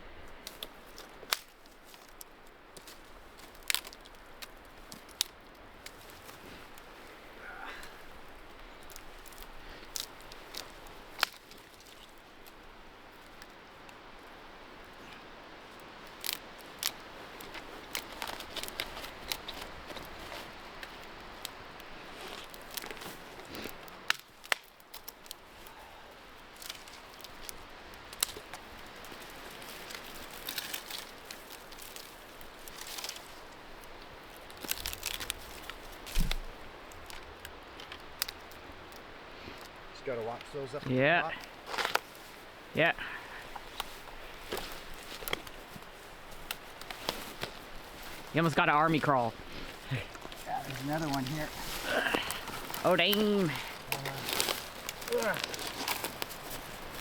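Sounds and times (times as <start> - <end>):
twigs snapping: 0.3 - 57.0.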